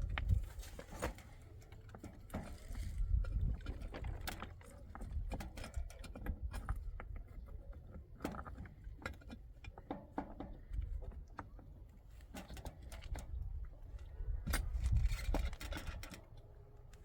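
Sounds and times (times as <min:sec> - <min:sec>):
objects clicking and knocking: 0:00.0 - 0:16.5.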